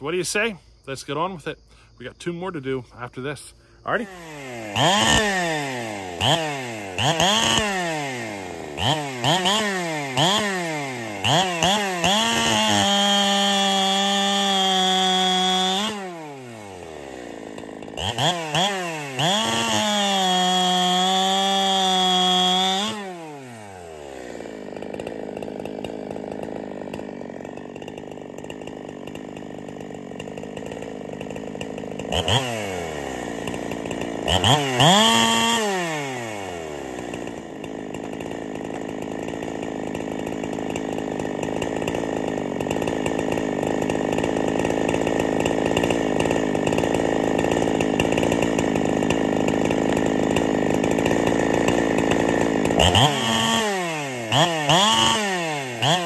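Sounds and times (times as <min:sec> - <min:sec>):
chainsaw revving and idling: 0:00.0 - 0:56.0
chainsaw cutting through log: 0:02.2 - 0:56.0.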